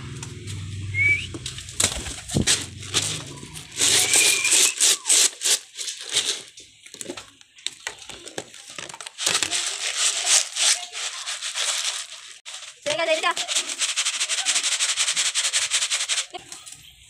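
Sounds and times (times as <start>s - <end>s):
rustling of leafy plants: 0.3s - 17.0s.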